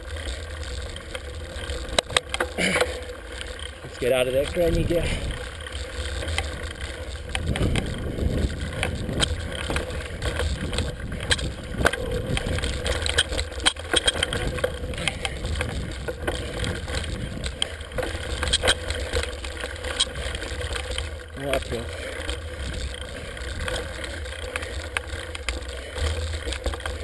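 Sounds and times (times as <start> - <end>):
bike rattling over rock: 0.0 - 27.0.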